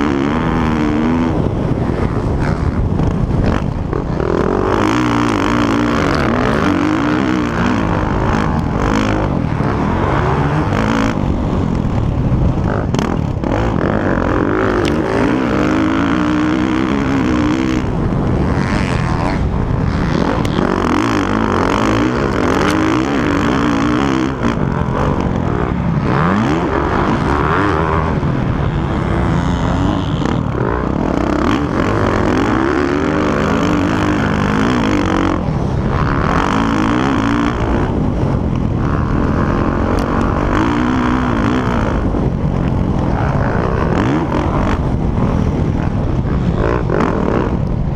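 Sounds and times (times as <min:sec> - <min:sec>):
motocross engines revving: 0:00.0 - 0:47.9.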